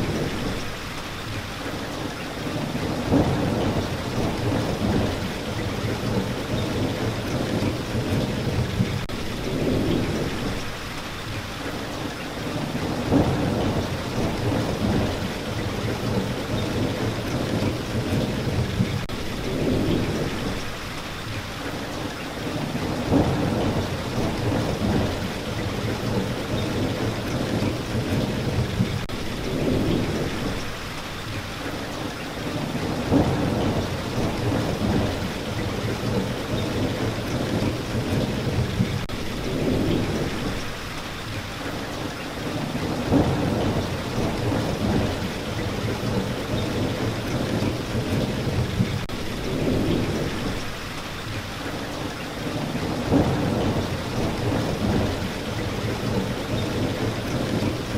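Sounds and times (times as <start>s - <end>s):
rain falling: 0.0s - 57.9s
low thunder rumbles: 2.4s - 10.8s, 12.5s - 20.8s, 22.4s - 30.9s, 32.5s - 40.8s, 42.4s - 50.8s, 52.4s - 57.9s.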